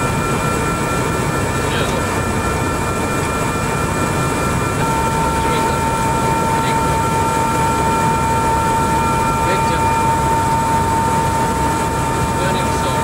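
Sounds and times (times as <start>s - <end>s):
helicopter turbine engine: 0.0s - 13.0s
steady tone: 0.0s - 13.0s.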